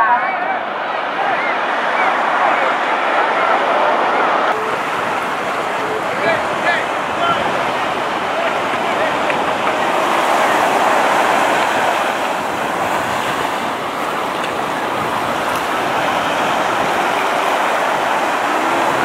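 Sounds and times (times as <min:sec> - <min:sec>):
waves breaking on sandy beach: 0:00.0 - 0:19.0.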